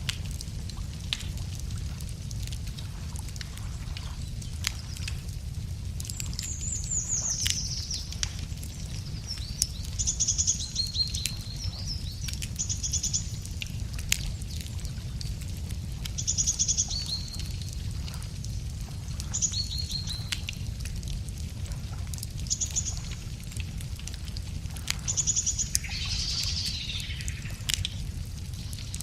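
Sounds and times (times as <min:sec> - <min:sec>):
low rumble of fire: 0:00.0 - 0:29.0
wood fire crackling and popping: 0:00.0 - 0:29.0.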